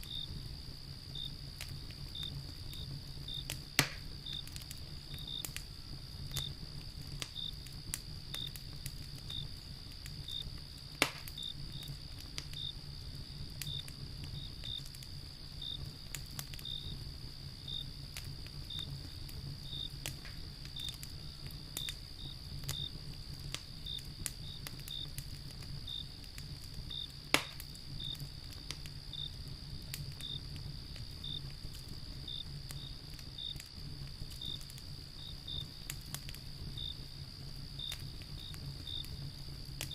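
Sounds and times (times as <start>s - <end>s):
cricket chirping: 0.0s - 39.9s
high insect trill: 0.0s - 39.9s
loud fire pops: 0.0s - 39.9s
wood fire crackling: 0.0s - 39.9s.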